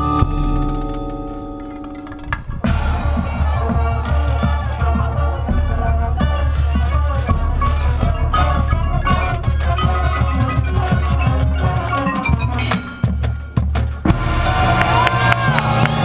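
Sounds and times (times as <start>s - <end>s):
marching band playing: 0.0s - 16.0s.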